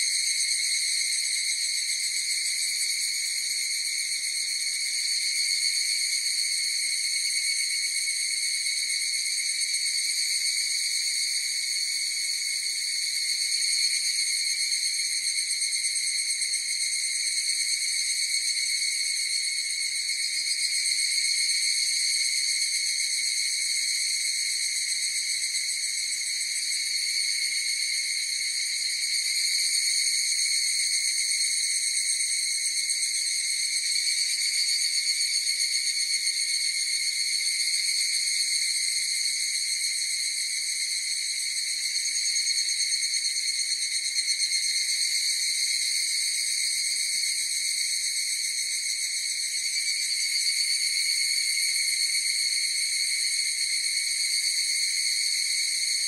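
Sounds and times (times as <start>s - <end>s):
cicadas high ringing drone: 0.0s - 56.0s.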